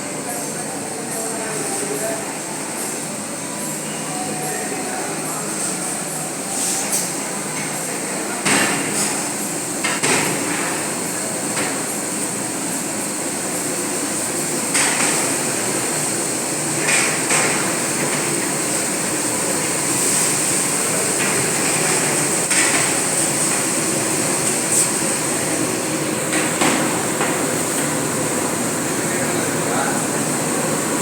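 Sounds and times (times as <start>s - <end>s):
steady cooking hiss: 0.0s - 31.0s.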